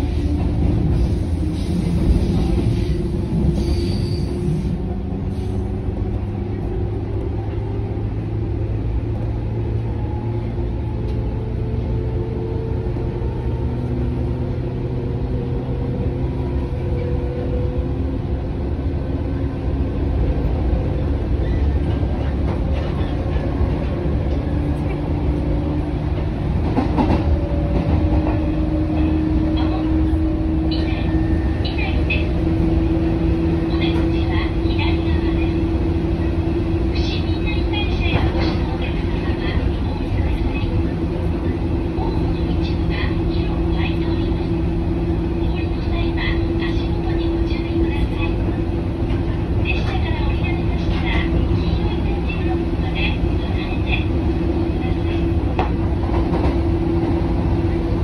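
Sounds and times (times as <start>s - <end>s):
train underfloor rumble: 0.0s - 58.0s.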